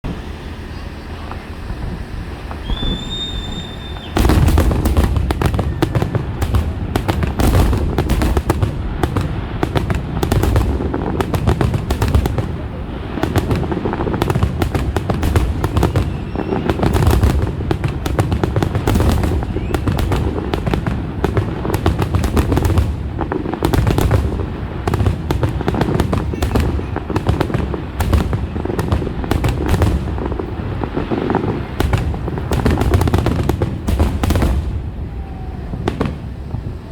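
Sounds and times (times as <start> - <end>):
fireworks bursts and booms: 0.0 - 36.9
firework whistle: 0.1 - 36.9.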